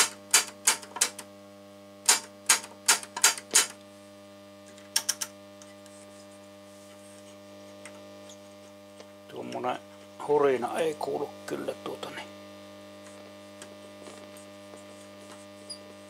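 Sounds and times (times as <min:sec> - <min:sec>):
radio loudspeaker mains hum: 0:00.0 - 0:16.0.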